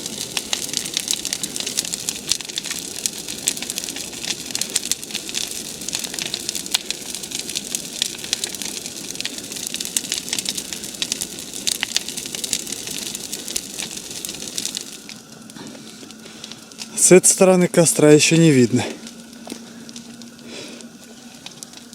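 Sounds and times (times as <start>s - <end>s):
bonfire crackling and popping: 0.0s - 21.9s
flames roaring: 0.0s - 21.9s.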